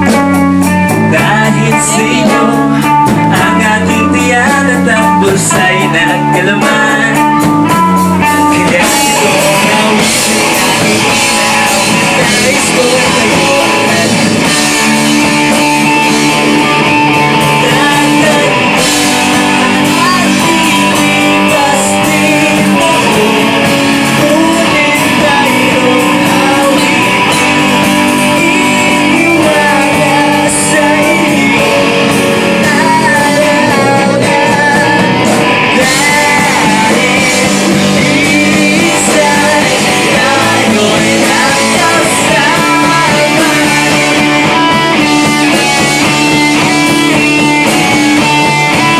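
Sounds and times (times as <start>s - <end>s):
bass guitar: 0.0s - 48.9s
electric guitars: 0.0s - 48.9s
person singing into a microphone: 0.0s - 48.9s
rock band playing: 0.0s - 48.9s.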